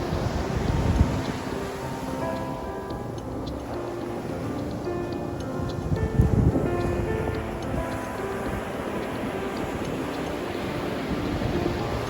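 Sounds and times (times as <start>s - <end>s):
sea waves rushing: 0.0s - 12.0s
wind buffeting the microphone: 0.0s - 12.0s.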